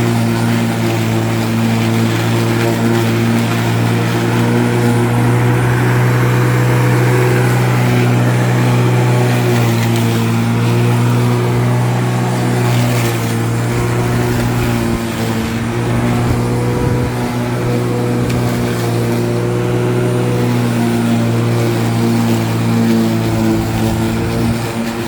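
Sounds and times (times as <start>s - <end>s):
lawn mower engine hum: 0.0s - 25.0s.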